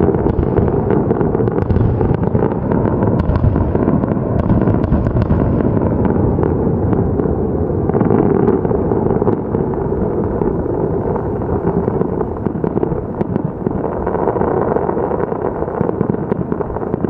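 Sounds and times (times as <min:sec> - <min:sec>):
distant firework booms: 0:00.0 - 0:17.0
firework crackles and pops: 0:00.0 - 0:17.0.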